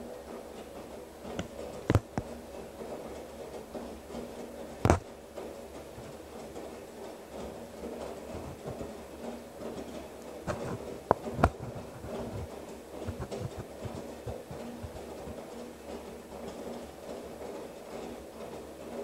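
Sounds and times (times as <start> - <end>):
washer humming: 0.0 - 19.0
washing machine tumbling clothes: 0.0 - 19.0.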